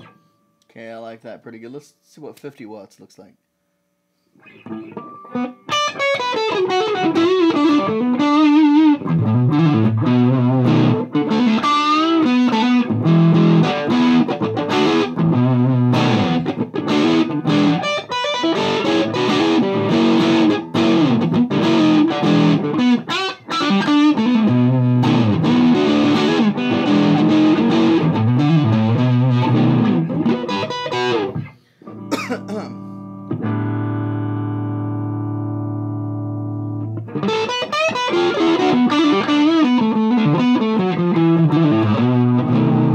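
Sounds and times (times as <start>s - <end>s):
distorted electric guitar riffing: 4.4s - 42.9s.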